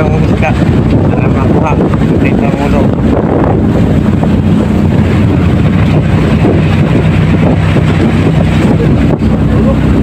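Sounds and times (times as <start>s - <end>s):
boat engine droning: 0.0s - 10.0s
wind buffeting microphone: 0.0s - 10.0s.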